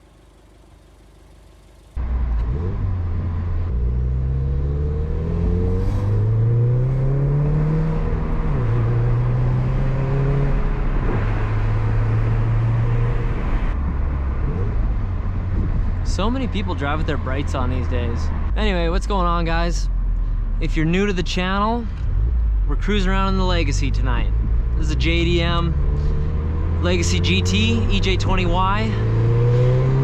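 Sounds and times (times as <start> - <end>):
car engine accelerating: 0.0 - 18.5, 21.9 - 30.0.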